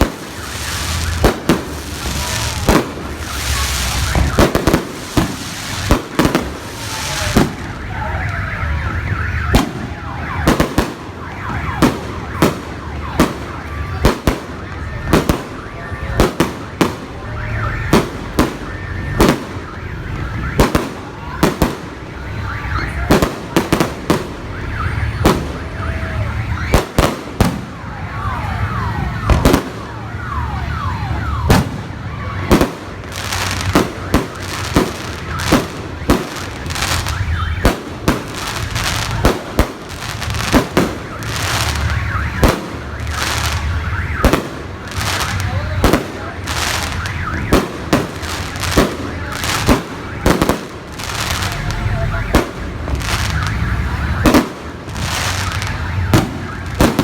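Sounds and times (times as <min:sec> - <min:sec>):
fireworks bangs: 0:00.0 - 0:57.0
fireworks whistles gliding in pitch: 0:00.0 - 0:57.0.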